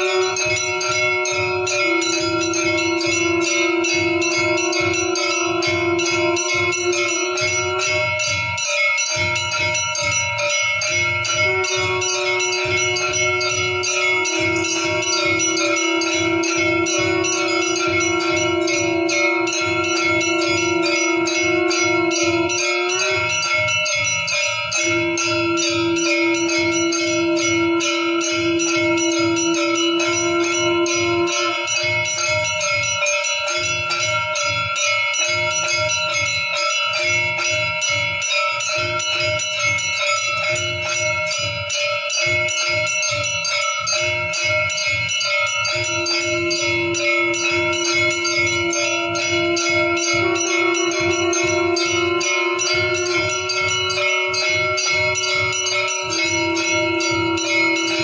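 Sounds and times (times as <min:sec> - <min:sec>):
held low tone: 0:00.0 - 0:33.0, 0:44.4 - 0:58.0
bells ringing rapidly: 0:00.0 - 0:58.0
drum beats: 0:00.0 - 0:58.0.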